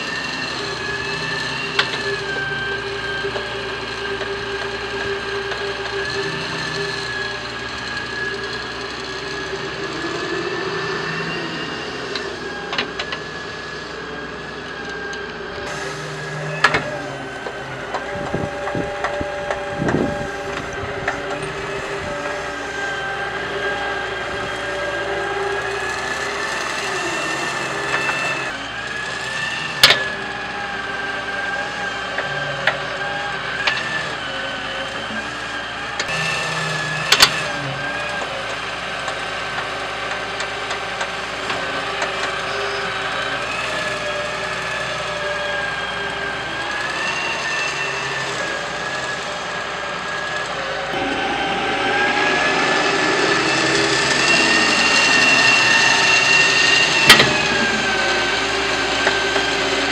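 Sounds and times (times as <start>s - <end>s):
excavator engine and hydraulic whine: 0.0s - 59.9s.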